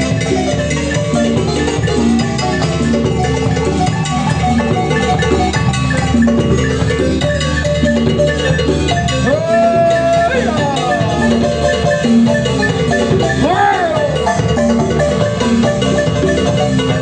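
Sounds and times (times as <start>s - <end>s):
drum kit beat: 0.0s - 17.0s
marimba music: 0.0s - 17.0s.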